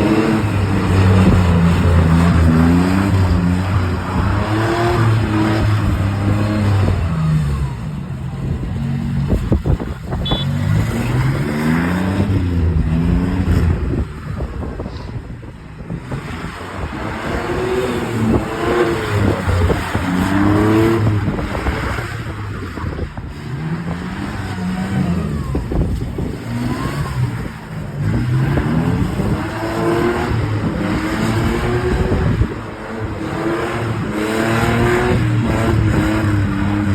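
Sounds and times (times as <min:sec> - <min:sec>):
car engine revving: 0:00.0 - 0:14.9, 0:16.0 - 0:36.9.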